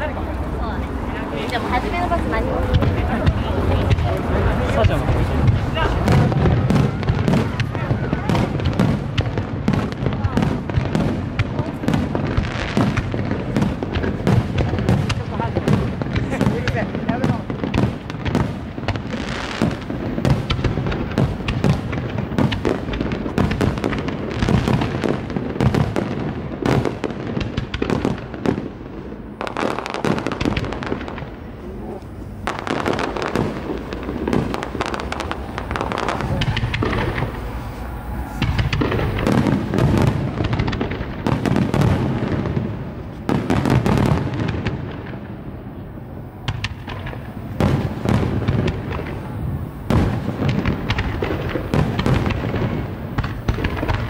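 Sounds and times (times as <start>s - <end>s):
fireworks booming: 0.0s - 54.0s
sharp firework reports: 0.0s - 54.0s.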